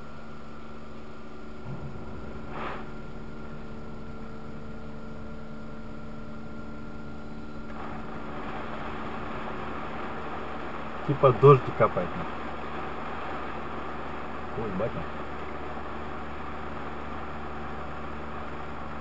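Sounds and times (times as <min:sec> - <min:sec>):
car wash machinery hum: 0:00.0 - 0:19.0.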